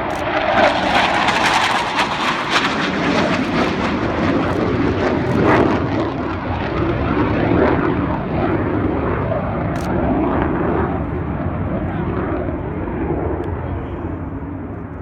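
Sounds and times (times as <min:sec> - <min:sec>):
jet flying past roaring: 0:00.0 - 0:15.0.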